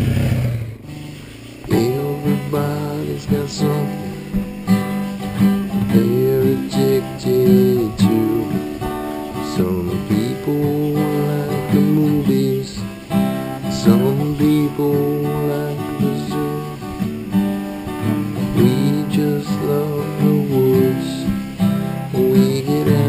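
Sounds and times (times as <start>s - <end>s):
strummed acoustic guitar music: 0.0s - 23.0s.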